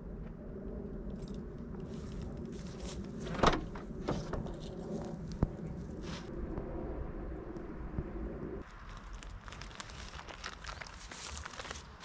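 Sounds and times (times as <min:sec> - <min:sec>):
low outdoor background: 0:00.0 - 0:12.0.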